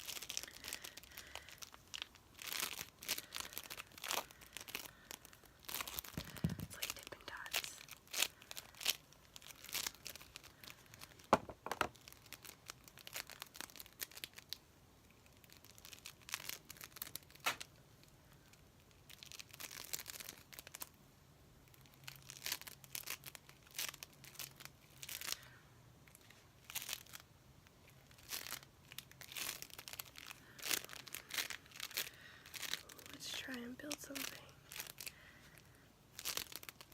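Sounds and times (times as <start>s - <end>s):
modelling compound crackling and tearing: 0.0s - 21.0s, 21.6s - 36.9s.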